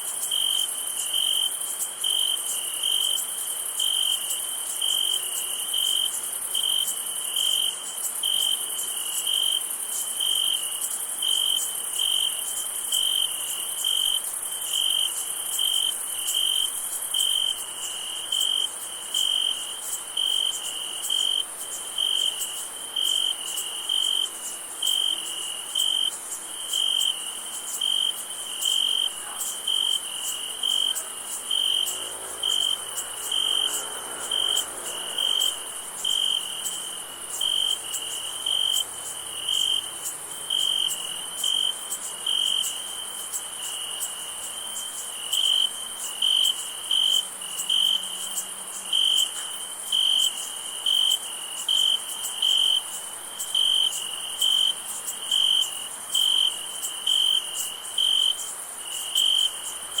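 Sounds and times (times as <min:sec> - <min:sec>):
cricket chirping: 0:00.0 - 1:00.0
high-pitched insect trill: 0:00.0 - 1:00.0.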